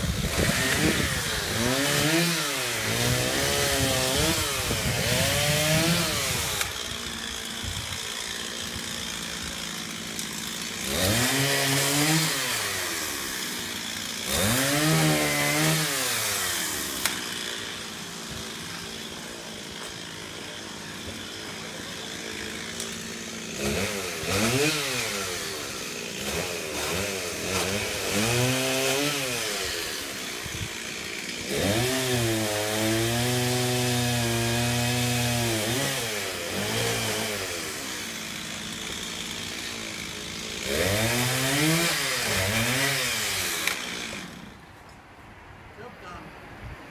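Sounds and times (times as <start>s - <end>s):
chainsaw engine idling and revving: 0.0s - 44.6s.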